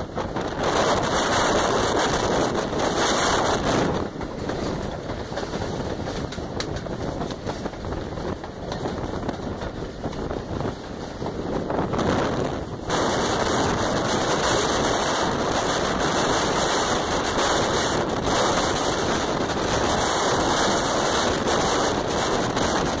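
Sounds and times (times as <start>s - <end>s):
train rumbling and rattling: 0.0s - 23.0s
wind buffeting microphone: 0.0s - 23.0s.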